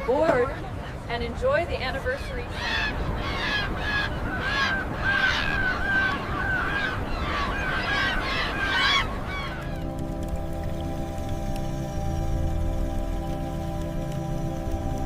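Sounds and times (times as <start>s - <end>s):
flock of birds honking: 2.0s - 15.0s.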